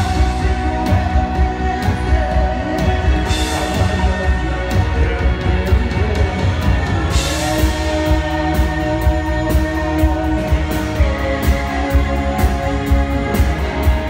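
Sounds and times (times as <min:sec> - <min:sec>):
held guitar chords: 0:00.0 - 0:14.0.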